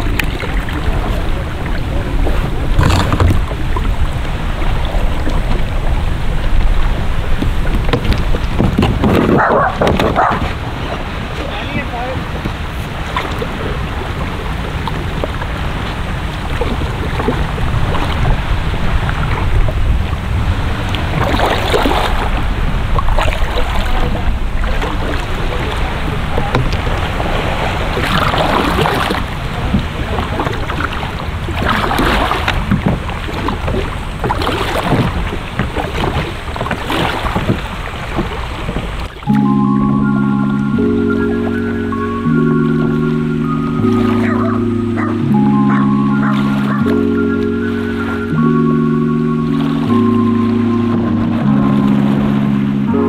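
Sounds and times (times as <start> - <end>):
kayak paddle splashing in water: 0.0 - 39.4, 43.8 - 48.4
wind rumble on microphone: 0.0 - 53.0.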